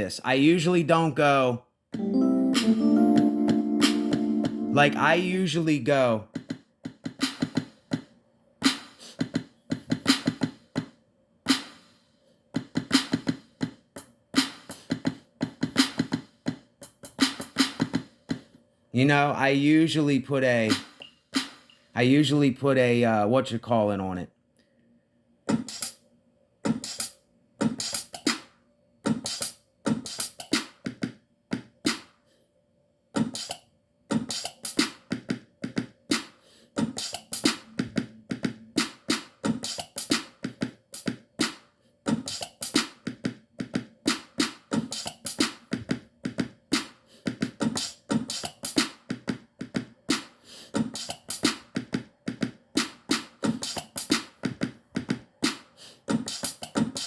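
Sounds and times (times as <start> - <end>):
drum machine beat: 2.0 - 10.9, 11.5 - 11.8, 12.6 - 13.8, 14.4 - 18.4, 19.2 - 21.8, 25.5 - 26.0, 26.7 - 28.5, 29.1 - 32.1, 33.2 - 57.0.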